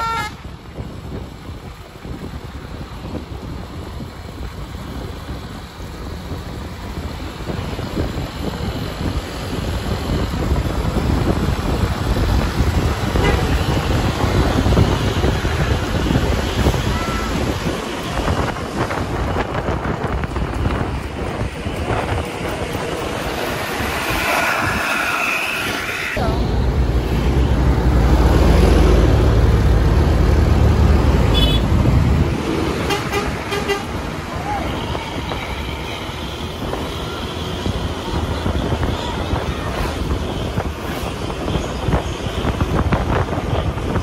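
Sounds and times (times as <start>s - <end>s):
wind buffeting microphone: 0.0s - 25.0s, 25.6s - 44.0s
bus driving by: 0.0s - 44.0s.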